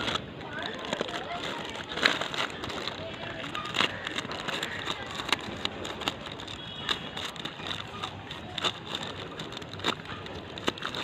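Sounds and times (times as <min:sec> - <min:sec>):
packaging crackling and rustling: 0:00.0 - 0:11.0.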